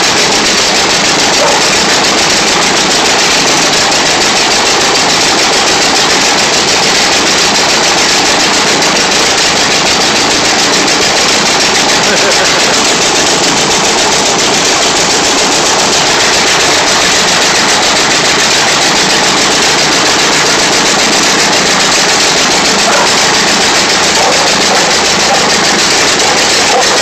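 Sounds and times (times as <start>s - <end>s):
aircraft piston engine running: 0.0s - 27.0s.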